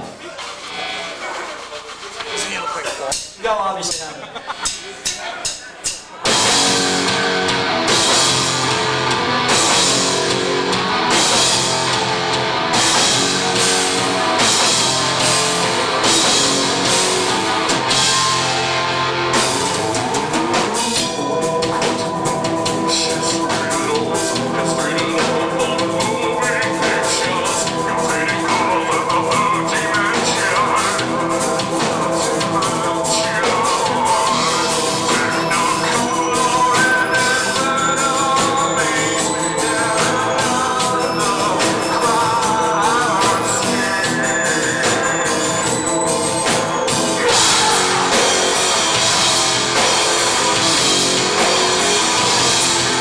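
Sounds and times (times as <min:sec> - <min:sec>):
metal band playing live: 0:05.5 - 0:53.0.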